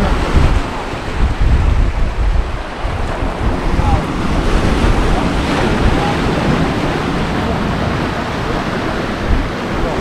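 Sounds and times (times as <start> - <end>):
surf washing: 0.0 - 10.0
wind buffeting microphone: 0.0 - 10.0.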